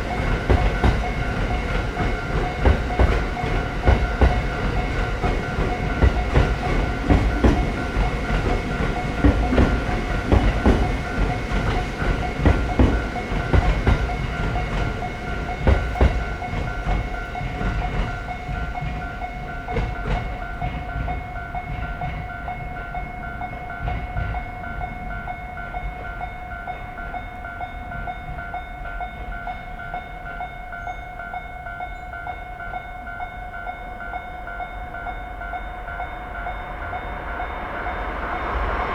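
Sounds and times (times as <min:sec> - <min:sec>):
train rumble and wheel clatter: 0:00.0 - 0:38.9.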